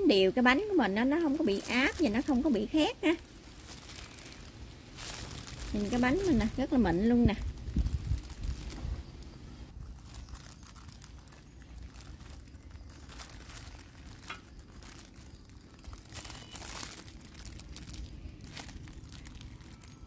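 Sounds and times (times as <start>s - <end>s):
plastic glove crinkling: 0.0s - 20.0s.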